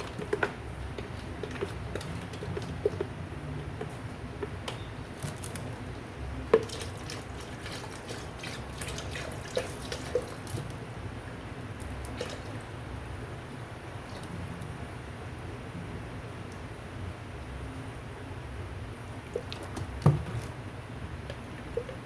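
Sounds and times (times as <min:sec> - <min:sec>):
low steady background hum: 0:00.0 - 0:22.0.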